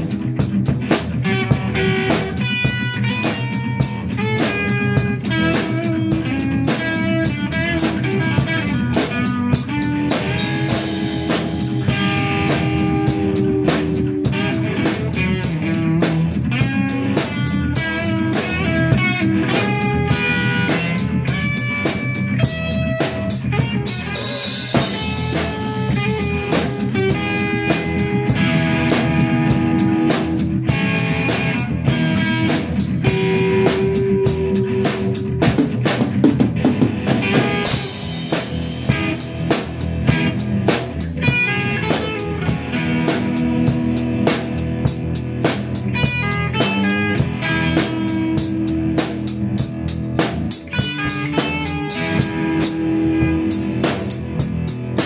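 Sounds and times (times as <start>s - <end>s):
drum kit beat: 0.0s - 55.0s
instrumental rock band: 0.0s - 55.0s
lead guitar melody: 0.0s - 55.0s.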